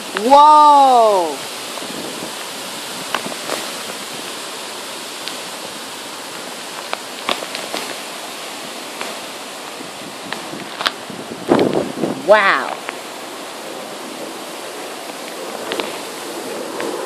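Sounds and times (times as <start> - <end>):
rain on foliage: 0.0 - 17.0
sharp rain ticks: 0.0 - 17.0.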